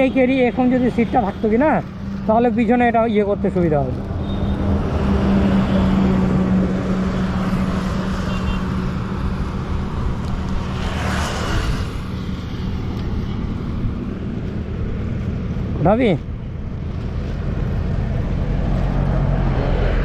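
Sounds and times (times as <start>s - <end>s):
engine hum: 0.0s - 20.0s
vehicle passing: 0.0s - 20.0s.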